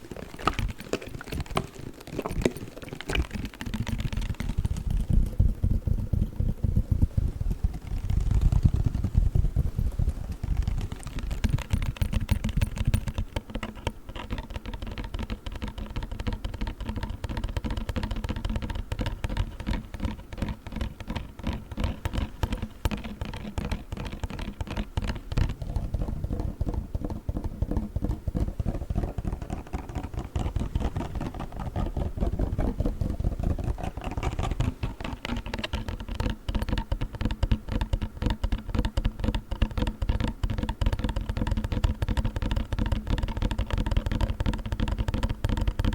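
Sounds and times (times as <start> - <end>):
fast tapping on cold pack: 0.0 - 45.9.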